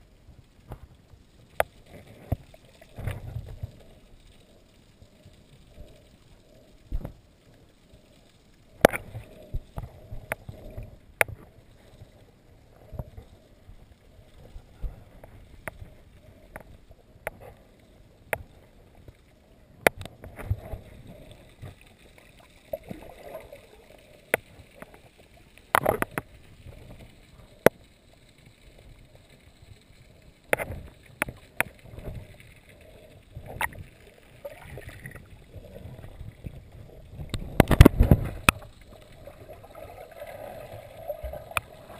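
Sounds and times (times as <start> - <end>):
underwater swishing: 0.0 - 41.9.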